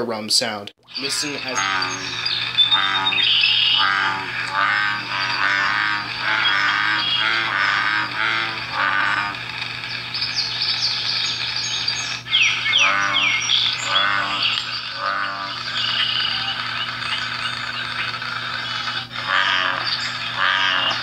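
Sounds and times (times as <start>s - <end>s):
bullfrogs croaking: 0.8s - 21.0s
high falling chirps: 0.9s - 21.0s.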